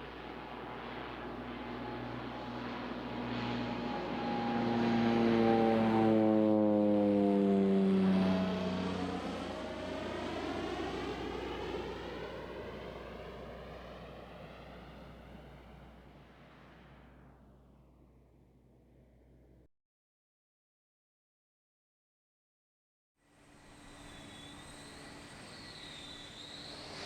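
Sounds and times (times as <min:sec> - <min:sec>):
airplane passing by: 0:00.0 - 0:19.6, 0:23.4 - 0:27.0.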